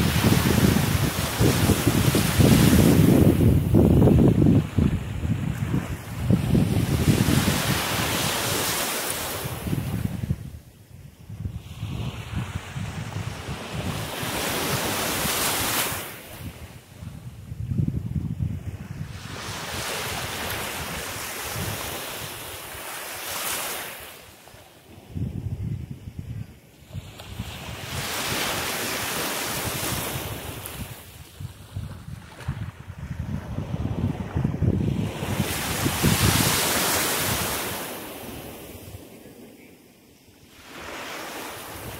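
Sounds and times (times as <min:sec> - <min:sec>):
wind buffeting microphone: 0:00.0 - 0:08.7, 0:09.3 - 0:22.6, 0:25.0 - 0:39.0
waves washing onto beach: 0:00.0 - 0:10.8, 0:11.5 - 0:17.6, 0:18.7 - 0:25.3, 0:26.0 - 0:41.9.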